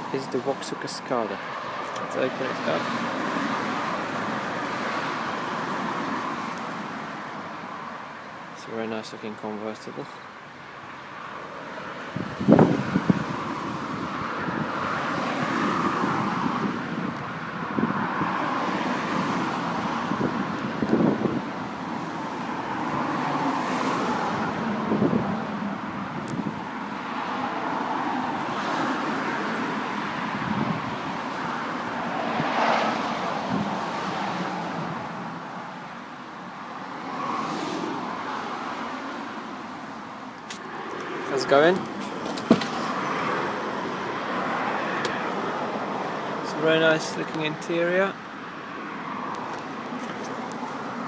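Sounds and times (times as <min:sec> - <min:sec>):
road traffic passing: 0:00.0 - 0:51.0.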